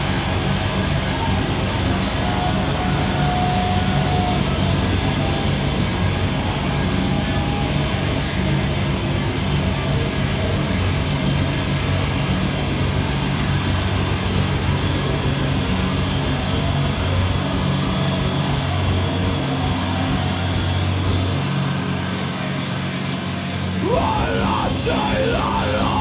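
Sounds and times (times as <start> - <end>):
metal band playing live: 0.0 - 26.0.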